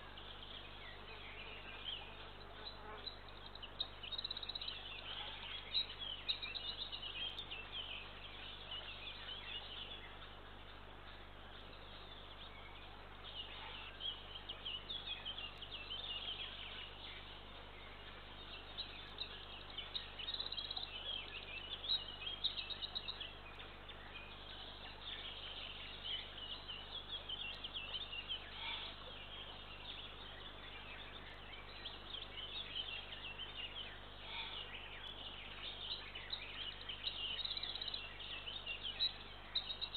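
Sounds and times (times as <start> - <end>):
faint steady low hum: 0.0 - 39.9
songbirds chirping and trilling: 0.0 - 39.9.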